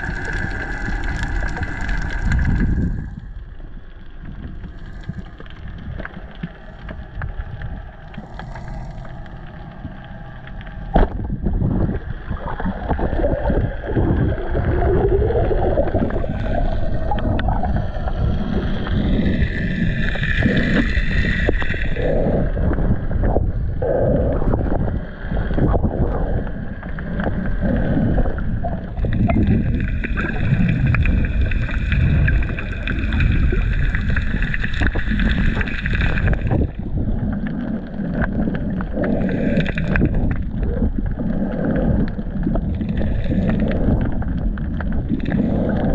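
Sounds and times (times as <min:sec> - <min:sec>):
underwater rushing water: 0:00.0 - 0:45.9.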